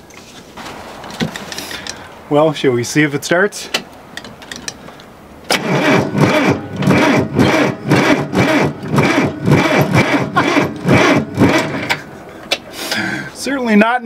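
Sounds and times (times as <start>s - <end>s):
diesel engine cranking slowly: 0.6s - 13.4s.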